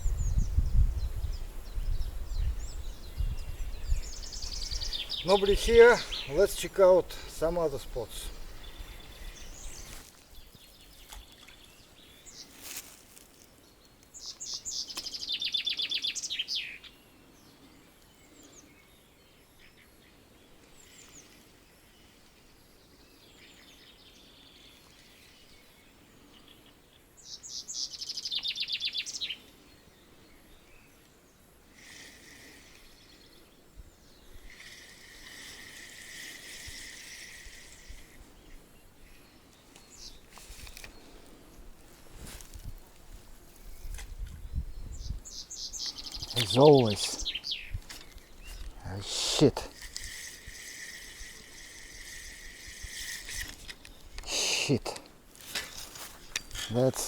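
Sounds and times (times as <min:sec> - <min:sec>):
songbird singing: 0:00.0 - 0:57.0
steady high hiss: 0:01.2 - 0:11.1, 0:14.1 - 0:43.9, 0:44.7 - 0:57.0.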